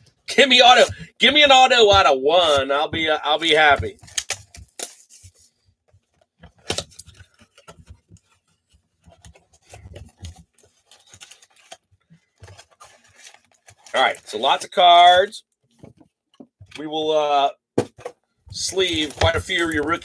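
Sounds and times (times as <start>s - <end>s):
wrapper and cardboard rustling: 0.7s - 16.1s, 18.5s - 20.0s.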